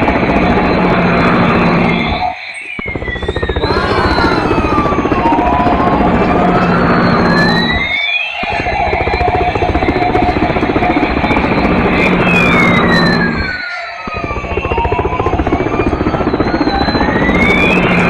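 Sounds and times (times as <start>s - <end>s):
fast chopping rattle: 0.0s - 18.0s
toy helicopter siren wailing: 0.0s - 18.0s.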